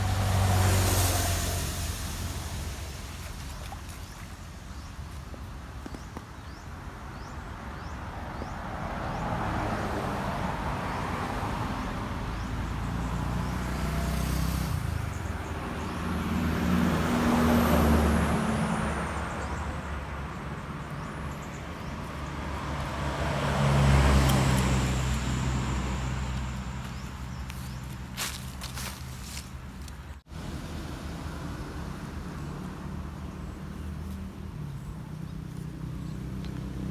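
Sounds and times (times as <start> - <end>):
motor vehicles passing by: 0.0 - 36.9.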